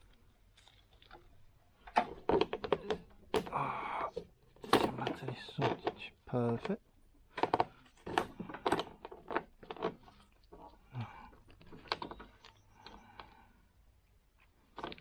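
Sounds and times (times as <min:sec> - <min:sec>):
light clicks and knocks of parts: 0:00.0 - 0:13.5, 0:14.1 - 0:15.0.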